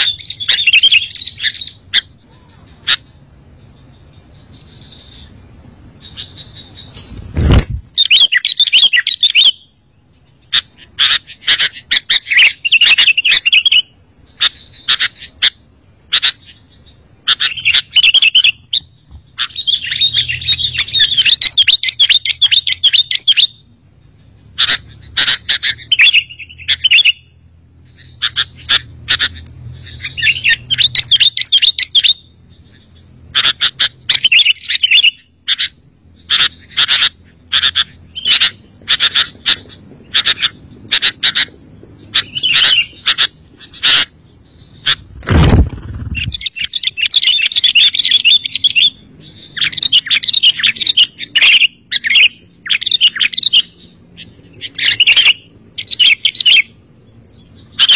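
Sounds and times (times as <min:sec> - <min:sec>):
bird chirping and chattering: 0:00.0 - 0:57.9.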